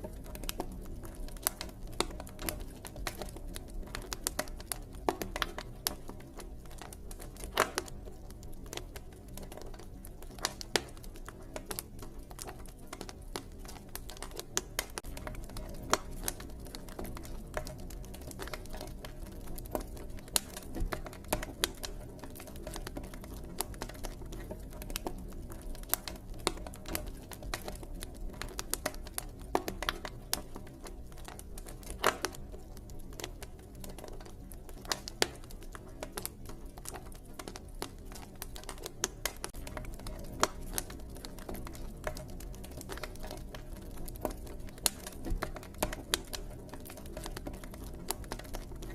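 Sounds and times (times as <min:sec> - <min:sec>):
campfire pops and snaps: 0:00.0 - 0:48.9
low rumble of burning fire: 0:00.0 - 0:48.9.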